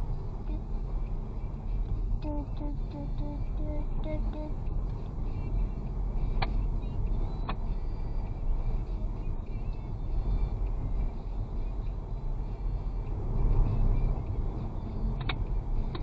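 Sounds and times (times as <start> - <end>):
vehicle driving rumble: 0.0 - 16.0.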